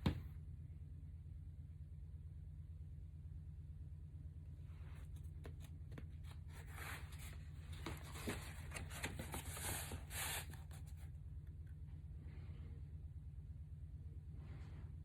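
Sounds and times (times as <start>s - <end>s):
low hum: 0.2s - 15.0s.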